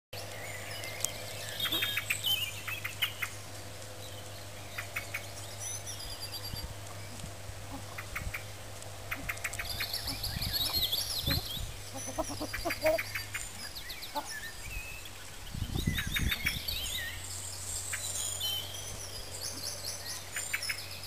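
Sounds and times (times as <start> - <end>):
small birds chirping: 0.2 - 21.0
steady low hum: 0.2 - 21.0.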